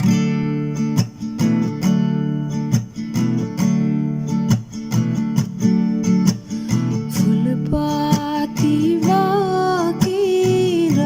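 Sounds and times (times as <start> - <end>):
guitar strumming: 0.0 - 11.0.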